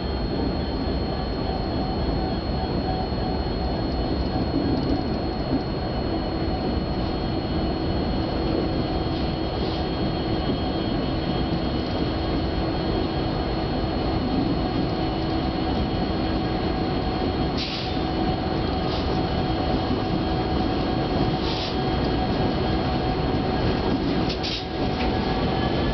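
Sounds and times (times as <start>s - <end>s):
high whine: 0.0s - 25.9s
diesel locomotives rumbling: 4.2s - 25.9s.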